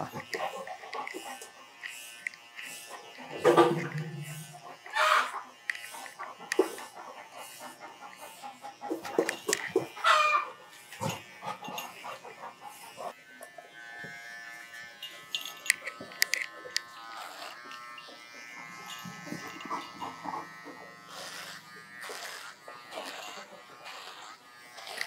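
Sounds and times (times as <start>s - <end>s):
electric pet trimmer buzzing: 0.0s - 25.0s.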